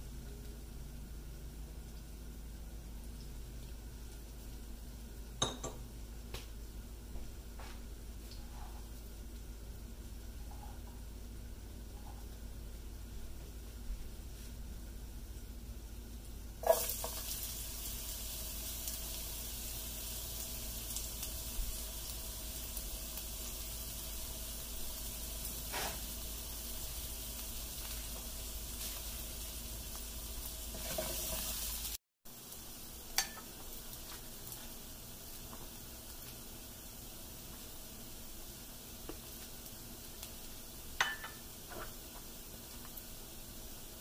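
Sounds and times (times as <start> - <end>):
onion sizzling in hot oil: 0.0 - 13.2, 14.1 - 44.0.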